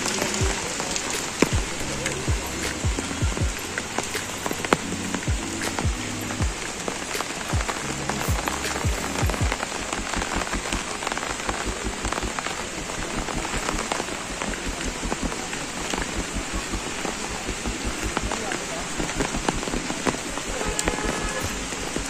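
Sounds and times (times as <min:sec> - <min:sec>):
rain on a wet street: 0:00.0 - 0:22.0
raindrop taps: 0:00.0 - 0:22.0.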